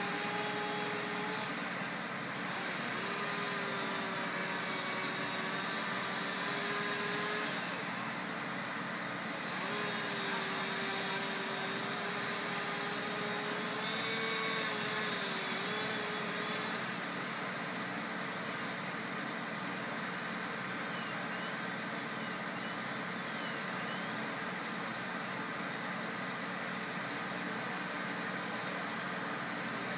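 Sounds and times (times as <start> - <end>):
fire engine motor drone: 0.0 - 29.9.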